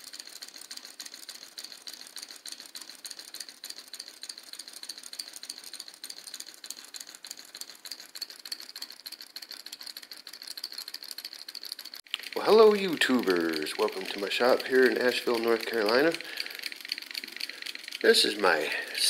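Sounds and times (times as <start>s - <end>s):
solenoid engine clicking rattle: 0.0s - 19.0s.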